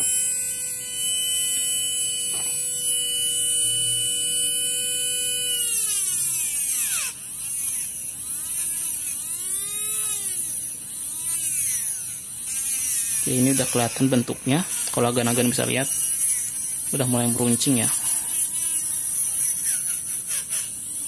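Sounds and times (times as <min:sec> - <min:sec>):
small motor whining: 0:00.0 - 0:21.0.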